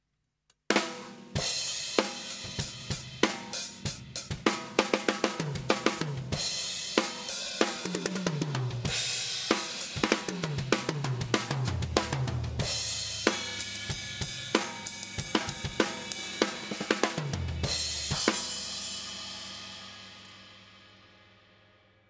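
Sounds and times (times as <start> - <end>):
drum kit groove: 0.7 - 20.6.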